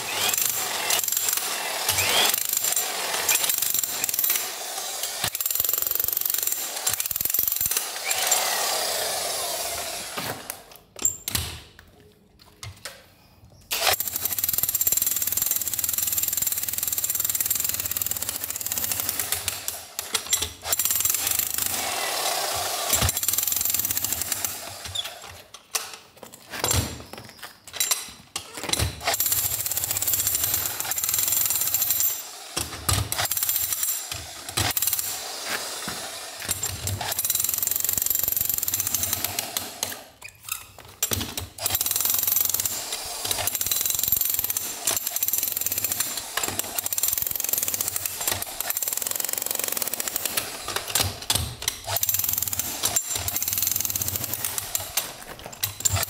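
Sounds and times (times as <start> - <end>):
demolition hammer chiselling stone: 0.0 - 9.0, 13.8 - 25.3, 28.7 - 40.0, 41.0 - 56.0.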